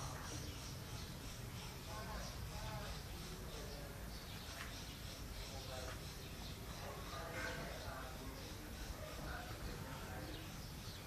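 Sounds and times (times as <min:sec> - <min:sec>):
faint distant voices: 0:00.0 - 0:11.0.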